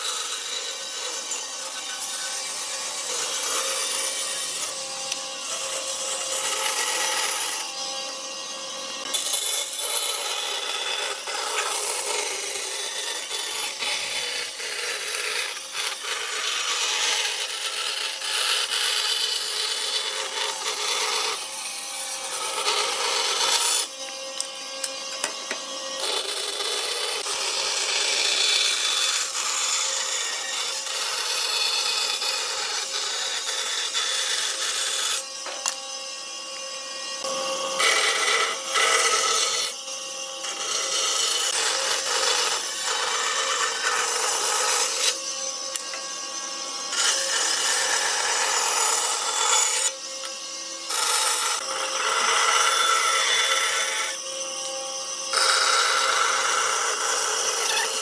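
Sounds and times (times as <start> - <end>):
woodworking tool running: 0.0 - 58.0.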